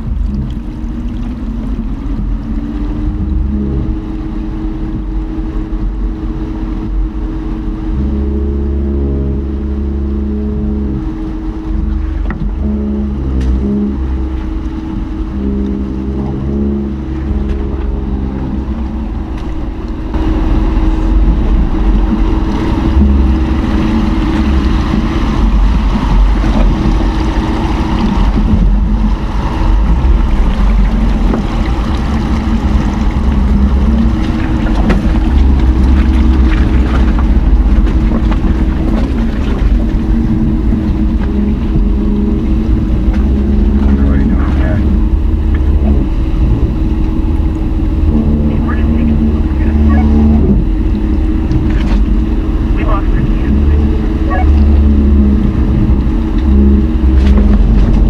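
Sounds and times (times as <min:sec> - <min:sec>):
car engine hum: 0:00.0 - 0:58.0
tyres rumbling on gravel: 0:00.0 - 0:58.0.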